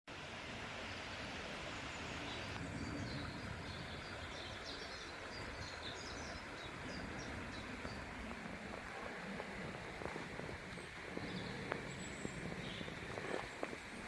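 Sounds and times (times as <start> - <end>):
steady outdoor hiss: 0.1 - 14.0
small birds chirping: 1.8 - 14.0.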